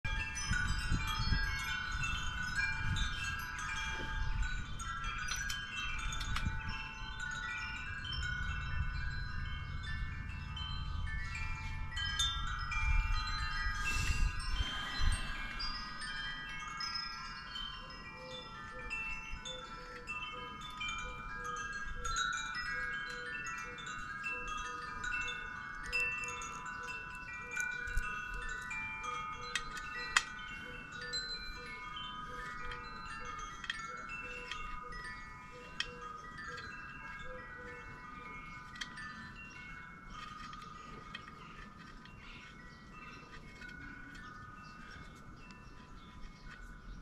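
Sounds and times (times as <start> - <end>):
wind chimes ringing: 0.0 - 47.0.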